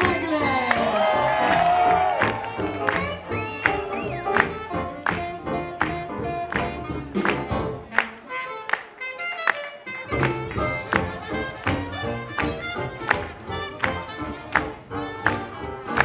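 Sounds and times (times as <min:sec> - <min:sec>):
swing jazz band playing: 0:00.0 - 0:16.0.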